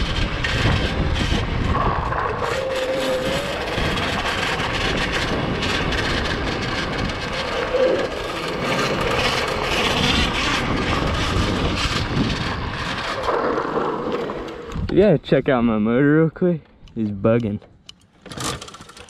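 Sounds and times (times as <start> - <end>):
tyres and chain rumbling: 0.0 - 15.5, 17.6 - 19.0.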